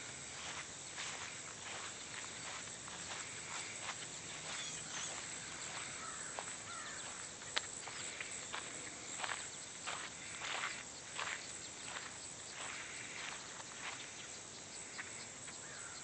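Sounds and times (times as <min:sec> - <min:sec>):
blackbirds chirping and calling: 0:00.0 - 0:16.0
steady outdoor hiss: 0:00.0 - 0:16.0.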